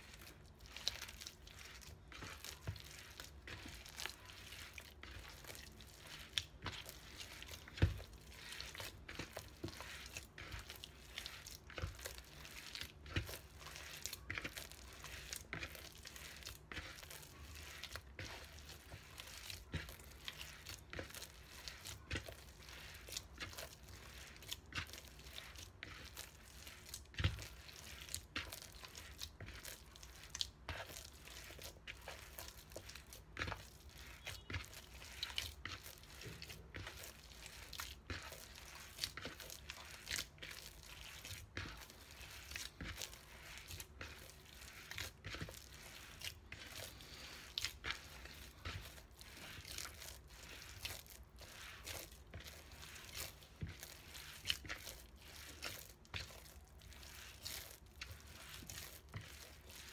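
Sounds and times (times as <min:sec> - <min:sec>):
dough squishing by hand: 0:00.0 - 0:59.9.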